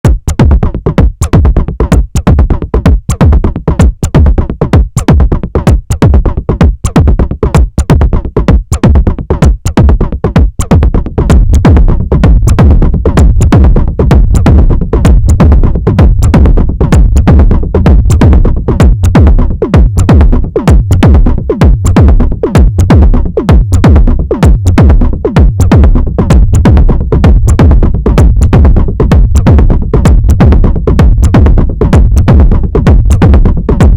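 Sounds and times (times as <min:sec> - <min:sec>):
driving synth percussion: 0:00.0 - 0:33.9.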